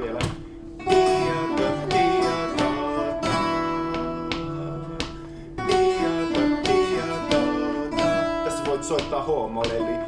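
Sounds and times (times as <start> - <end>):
acoustic guitar: 0.0 - 10.0.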